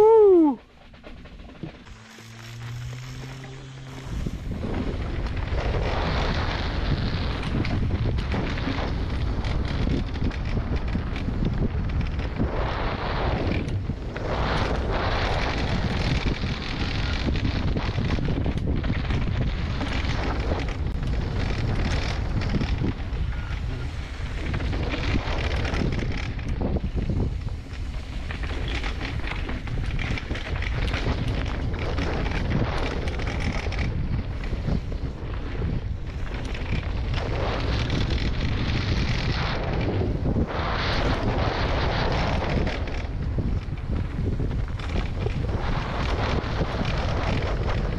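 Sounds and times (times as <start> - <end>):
bike rattling over bumps: 0.0 - 47.9
wind rumble on microphone: 0.0 - 47.9.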